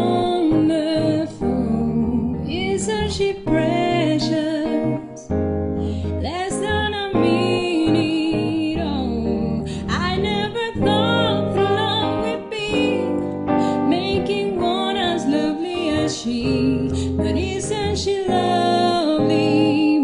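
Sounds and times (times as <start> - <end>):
woman singing softly: 0.0 - 5.3, 6.0 - 20.0
guitar: 0.0 - 20.0
piano: 0.0 - 20.0.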